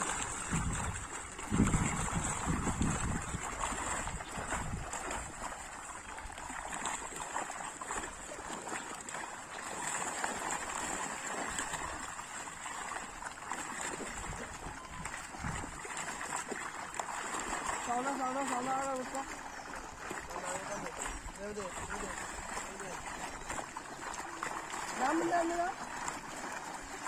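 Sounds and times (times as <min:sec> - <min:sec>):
pond water sloshing and splashing: 0:00.0 - 0:27.0.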